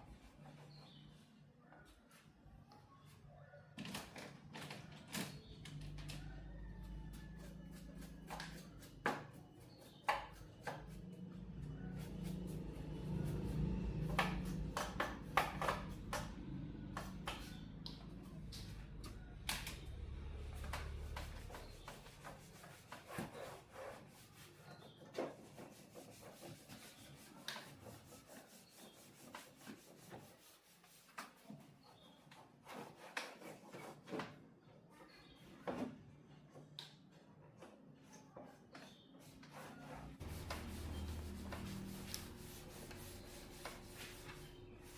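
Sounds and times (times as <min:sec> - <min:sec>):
hands rubbing and scraping parts: 0:04.8 - 0:34.2, 0:37.6 - 0:44.9.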